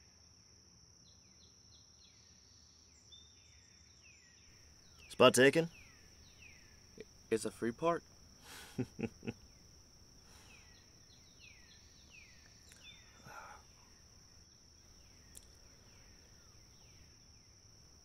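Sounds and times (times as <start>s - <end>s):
high insect drone: 1.0s - 18.0s.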